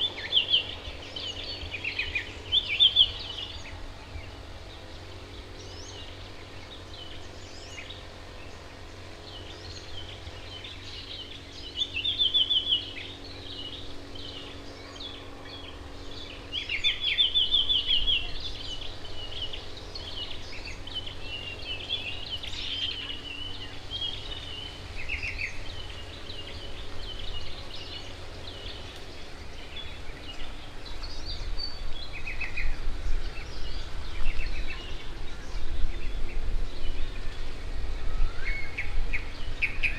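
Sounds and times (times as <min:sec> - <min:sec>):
birds chirping: 0:00.0 - 0:39.9
steady low rumble: 0:00.0 - 0:39.9.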